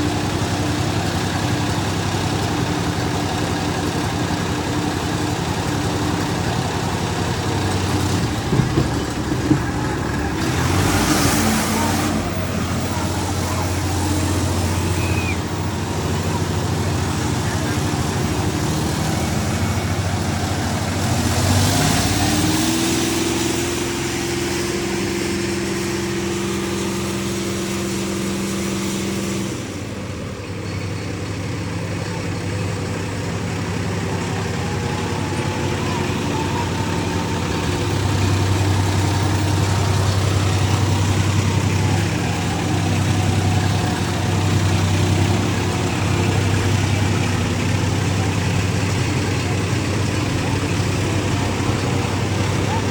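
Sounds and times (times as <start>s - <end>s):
tractor diesel engine revving: 0.0s - 52.9s.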